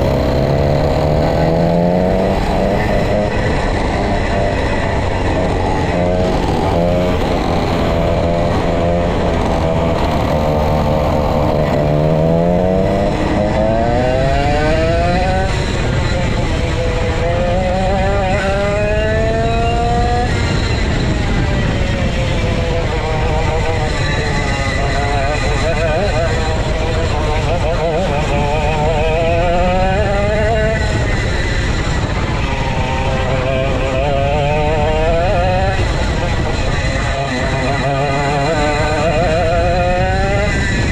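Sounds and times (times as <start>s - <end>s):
go-kart engine racing: 0.0s - 40.9s.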